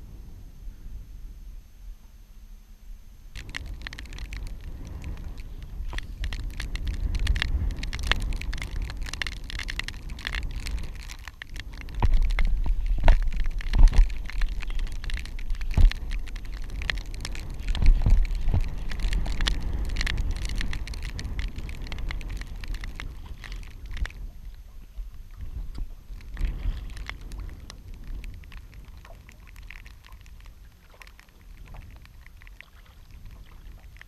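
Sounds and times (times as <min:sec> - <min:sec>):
low rumble on microphone: 0:00.0 - 0:34.0
sharp ticks and splashy clicks: 0:03.3 - 0:34.0.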